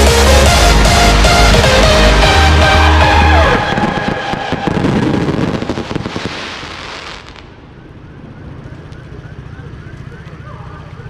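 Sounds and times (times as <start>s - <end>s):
fireworks bursting and crackling: 1.4s - 11.0s.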